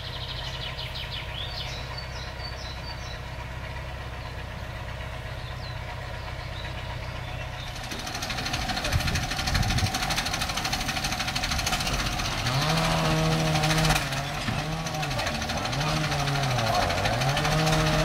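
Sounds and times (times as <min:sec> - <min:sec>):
engine knocking clatter: 0:00.0 - 0:18.0.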